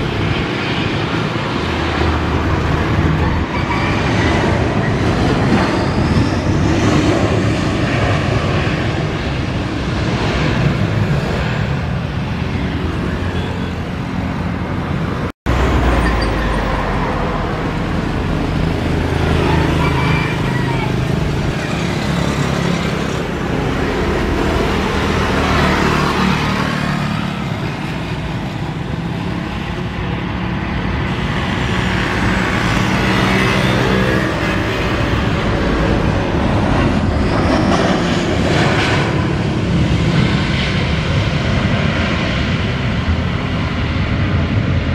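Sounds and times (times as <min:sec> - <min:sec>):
jet engines roaring: 0:00.0 - 0:44.9.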